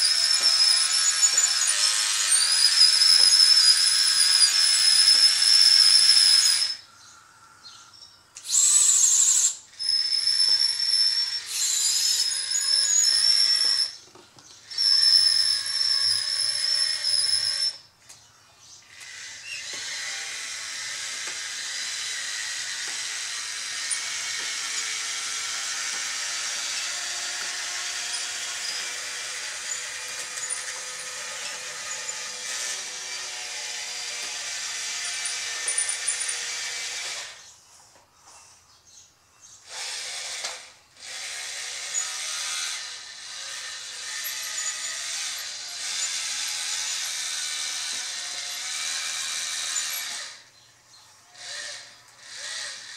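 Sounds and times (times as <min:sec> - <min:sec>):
electric motors whining: 0:00.0 - 0:07.1, 0:08.4 - 0:17.9, 0:18.6 - 0:37.8, 0:39.5 - 0:52.9.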